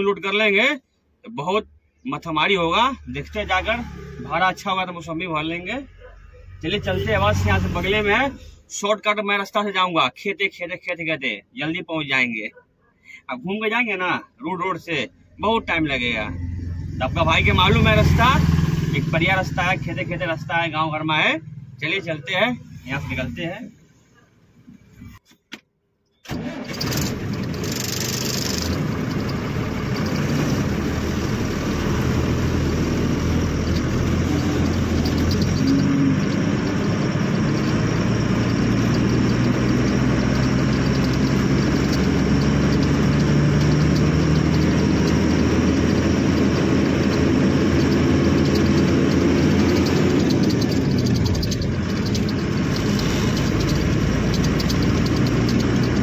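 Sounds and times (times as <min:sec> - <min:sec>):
truck engine driving off: 0:02.1 - 0:08.6, 0:14.9 - 0:23.6, 0:26.3 - 0:56.0.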